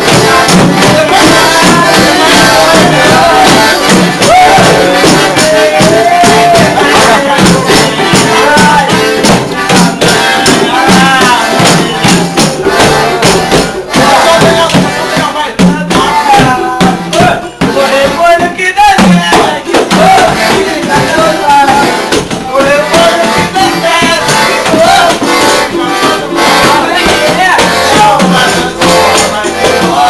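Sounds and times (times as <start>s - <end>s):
person singing: 0.0s - 30.0s
rattling hand percussion: 0.0s - 30.0s
steady beats: 0.0s - 30.0s.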